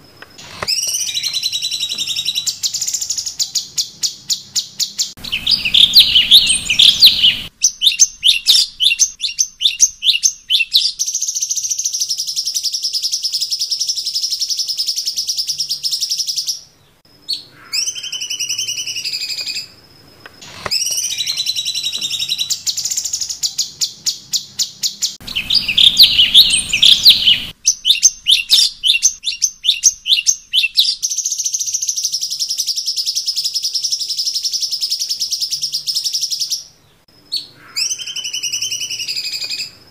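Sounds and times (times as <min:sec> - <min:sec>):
bird singing with trills: 0:00.4 - 0:19.8, 0:20.4 - 0:39.8.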